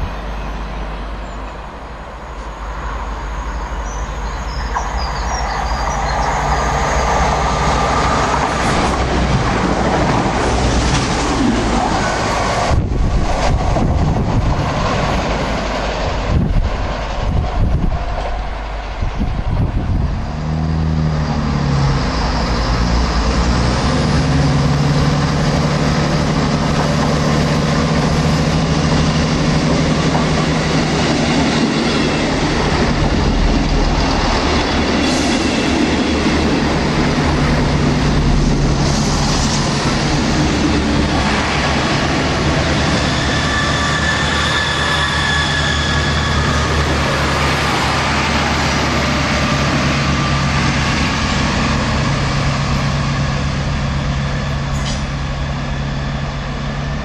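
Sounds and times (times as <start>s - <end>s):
diesel train engines humming: 0.0s - 57.0s
train rushing past: 0.0s - 57.0s.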